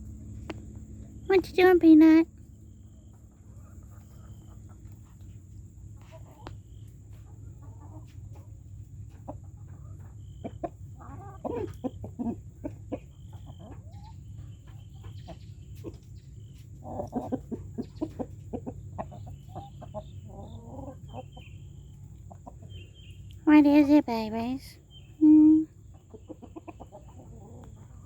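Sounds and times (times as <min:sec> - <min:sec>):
low background hum: 0:00.0 - 0:28.0
chickens clucking: 0:00.3 - 0:28.0.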